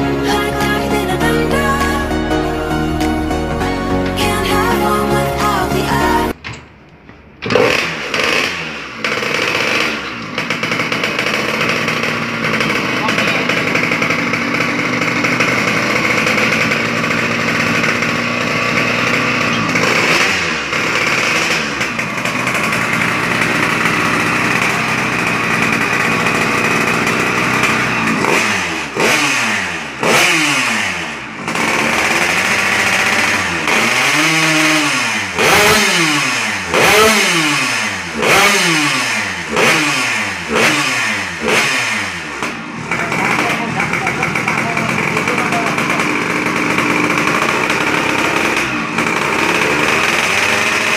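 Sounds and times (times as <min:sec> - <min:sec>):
two-stroke motorcycle engine revving: 0:00.0 - 0:06.6, 0:07.2 - 0:50.9.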